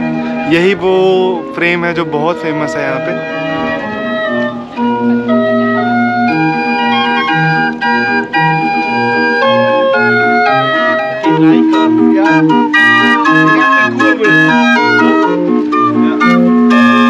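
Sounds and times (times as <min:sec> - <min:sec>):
barrel organ playing a tune: 0:00.0 - 0:17.0.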